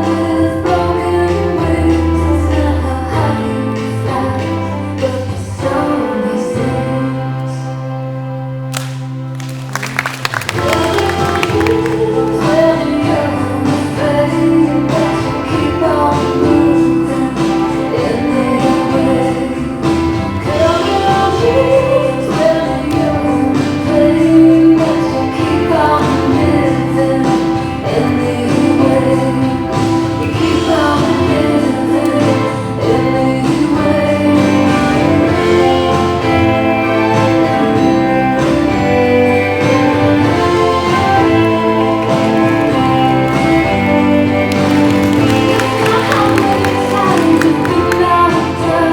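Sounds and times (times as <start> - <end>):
loud music with singing: 0.0 - 9.1, 9.7 - 48.9.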